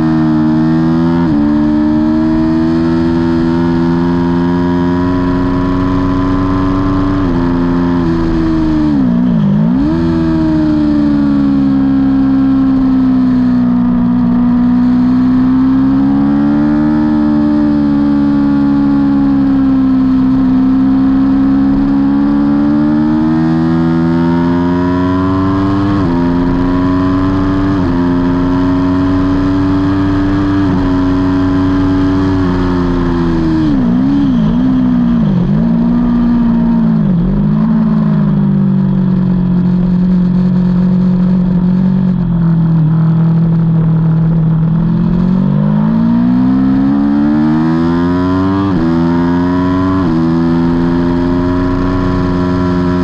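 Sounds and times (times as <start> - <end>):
motorcycle engine accelerating and shifting: 0.0 - 53.0.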